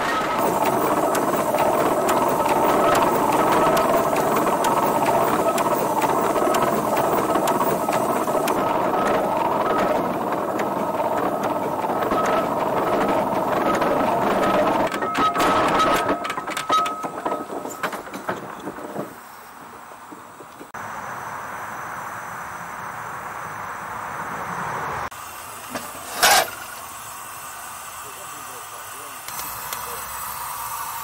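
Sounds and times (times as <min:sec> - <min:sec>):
steam engine mechanical clatter: 0:00.0 - 0:20.8, 0:25.5 - 0:31.0.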